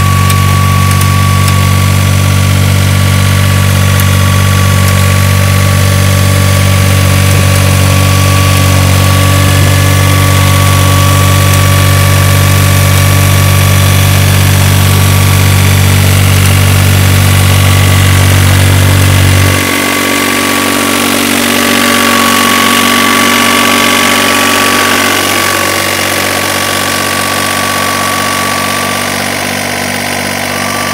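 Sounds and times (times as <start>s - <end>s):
heavy low hum: 0.0s - 30.9s
hoeing machine engine running: 0.0s - 30.9s.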